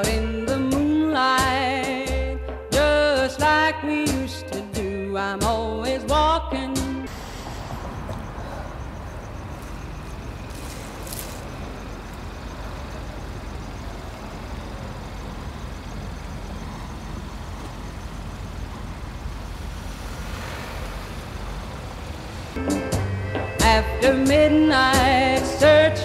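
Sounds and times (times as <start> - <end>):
street traffic rumble: 4.6 - 26.0.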